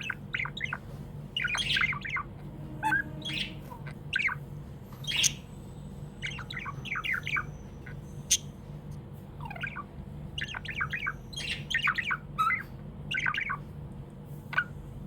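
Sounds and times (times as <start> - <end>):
budgerigars chirping and squawking: 0.0 - 8.8, 9.4 - 15.0
steady low hum: 0.0 - 15.0.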